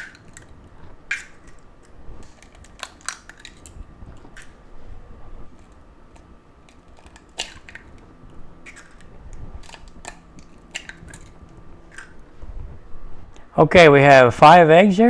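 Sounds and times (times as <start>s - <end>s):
eggshells cracking: 0.0s - 12.4s.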